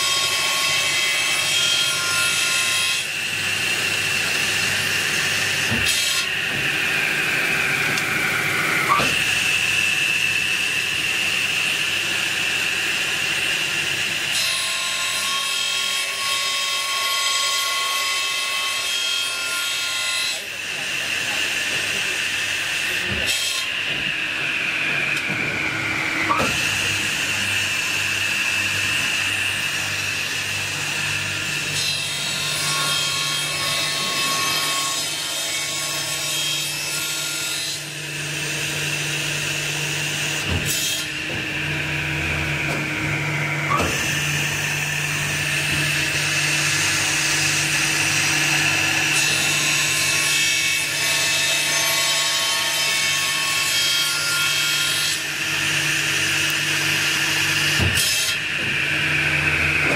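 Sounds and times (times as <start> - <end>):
saw blade whine cutting metal: 0.0 - 59.9.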